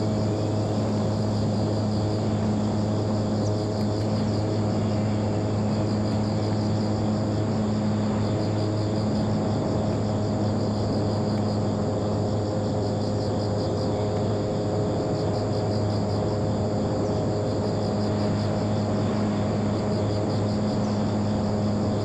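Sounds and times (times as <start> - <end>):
model airplane motor and propeller: 0.0 - 22.0.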